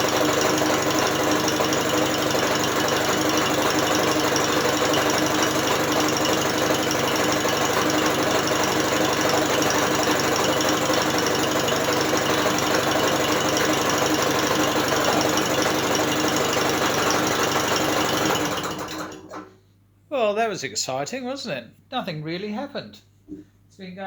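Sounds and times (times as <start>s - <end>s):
electric drill spinning outboard motor: 0.0s - 19.3s.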